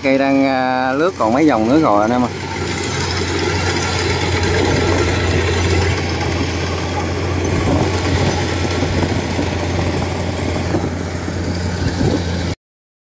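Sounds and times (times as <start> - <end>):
diesel engine drone: 0.0 - 12.6
harvester machinery clatter: 0.0 - 12.6.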